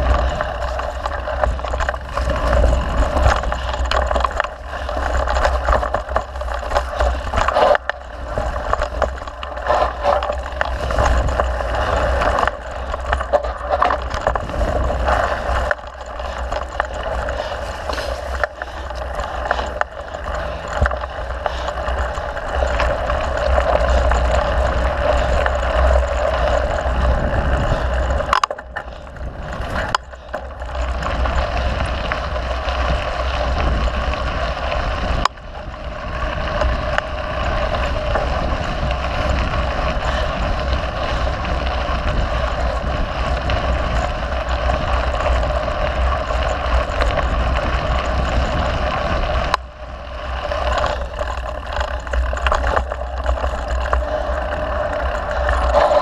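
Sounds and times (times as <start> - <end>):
bike rattling: 0.0 - 56.0
bike tyres on dirt: 0.0 - 56.0
wind rumbling on microphone: 0.0 - 56.0.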